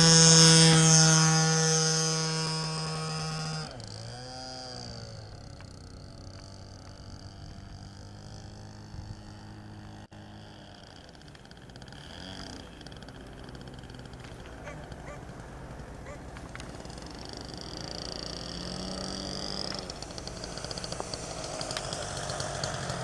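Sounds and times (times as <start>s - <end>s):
model airplane motor whining: 0.0s - 23.0s.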